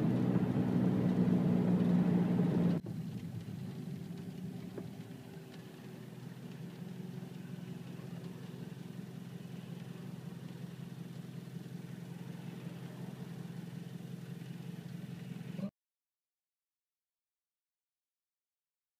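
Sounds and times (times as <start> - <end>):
car engine running low hum: 0.0 - 15.7.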